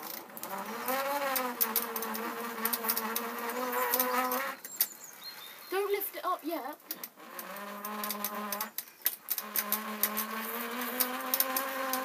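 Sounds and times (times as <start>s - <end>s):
crackling clicks: 0.0s - 5.5s, 6.8s - 12.0s.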